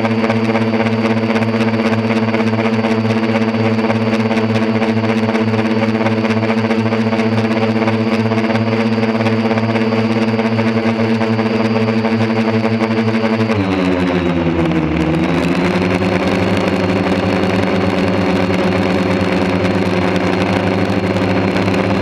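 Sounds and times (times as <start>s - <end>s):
quadcopter motors humming: 0.0s - 22.0s.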